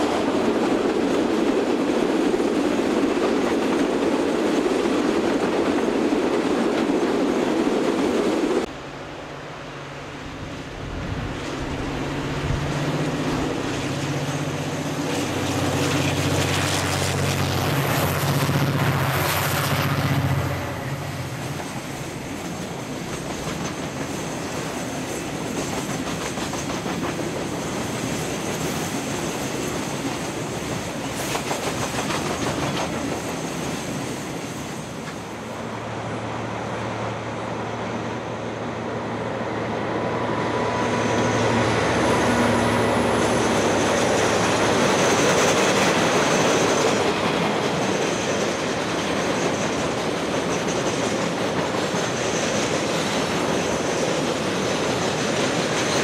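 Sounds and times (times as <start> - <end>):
train wheels clicking on rails: 0.0 - 8.7, 11.3 - 56.0
diesel locomotive engine hum: 0.0 - 56.0
train crossing steel bridge: 0.0 - 56.0.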